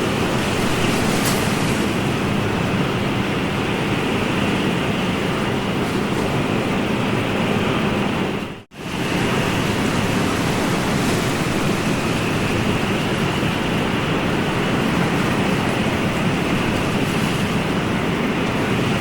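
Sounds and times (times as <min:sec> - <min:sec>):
ocean surf rushing: 0:00.0 - 0:19.0.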